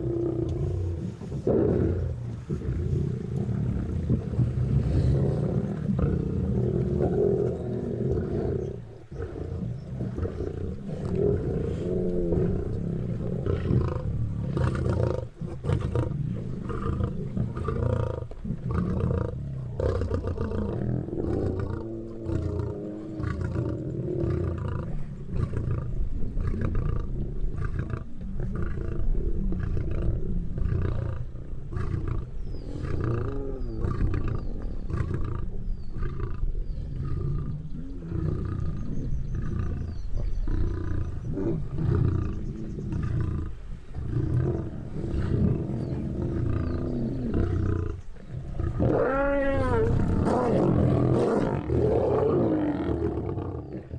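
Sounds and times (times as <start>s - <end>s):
lions growling: 0.0s - 53.9s.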